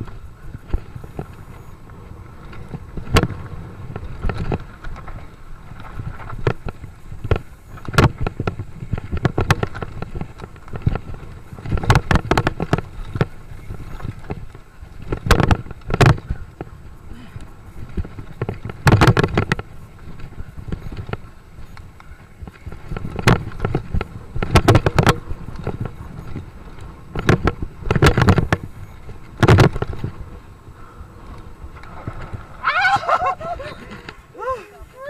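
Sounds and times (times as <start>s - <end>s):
bike knocking and rattling: 0.0s - 35.0s
tyre and wind noise: 0.0s - 35.0s.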